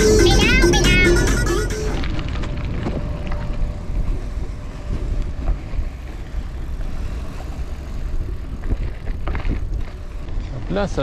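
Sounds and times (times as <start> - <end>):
wind and road rumble: 0.0 - 11.0.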